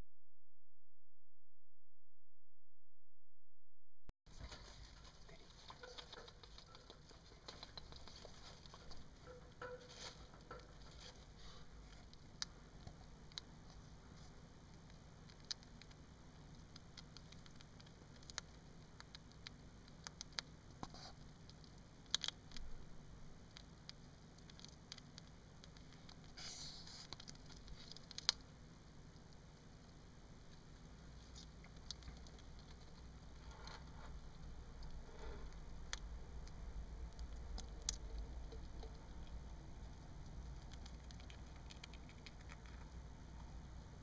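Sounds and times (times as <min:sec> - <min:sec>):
faint low hum: 0:04.3 - 0:44.0
hamster gnawing: 0:04.3 - 0:44.0.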